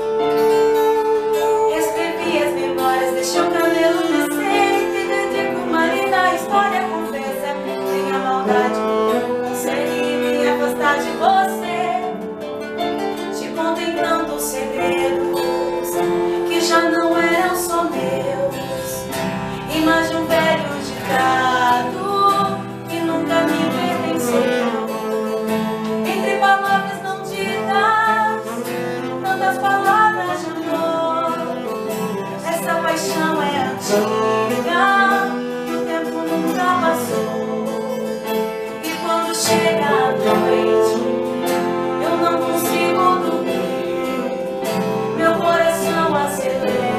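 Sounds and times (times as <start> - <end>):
acoustic guitar: 0.0 - 46.9
keyboard: 0.0 - 46.9.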